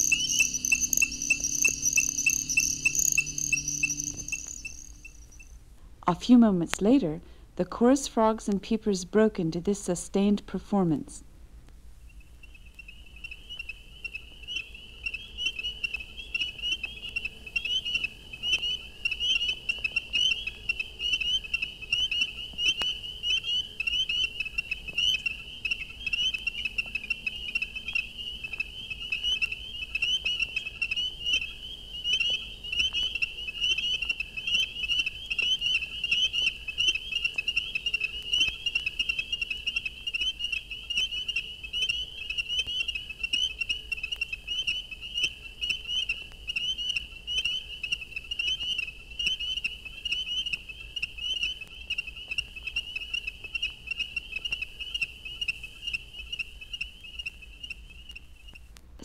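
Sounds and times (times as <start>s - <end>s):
chorus of frogs peeping: 0.0s - 5.5s, 12.1s - 58.6s.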